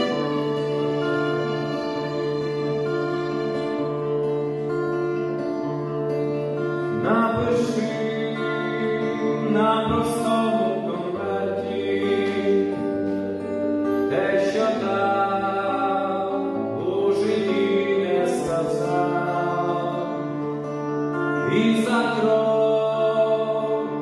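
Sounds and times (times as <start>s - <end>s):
slow song with sustained chords: 0.0s - 24.0s.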